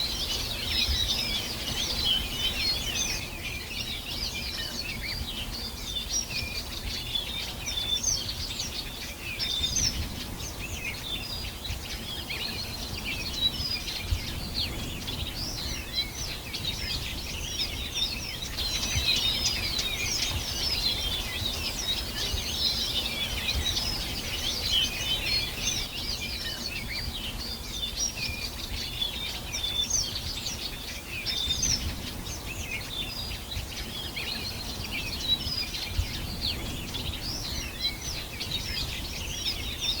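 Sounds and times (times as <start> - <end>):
small birds chirping and trilling: 0.0 - 40.0.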